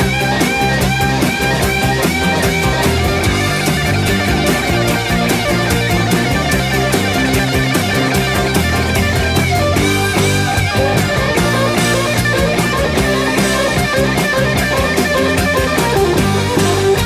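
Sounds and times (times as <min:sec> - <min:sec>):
guitar rock music: 0:00.0 - 0:17.0.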